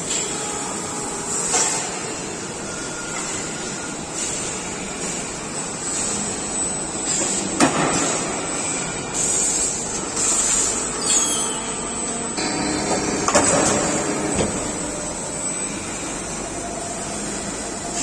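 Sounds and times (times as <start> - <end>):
factory machinery running: 0.0 - 18.0.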